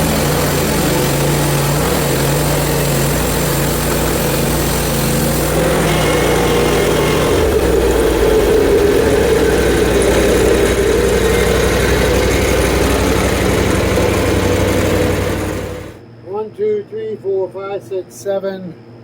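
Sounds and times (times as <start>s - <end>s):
band sawmill sawing log: 0.0s - 16.0s.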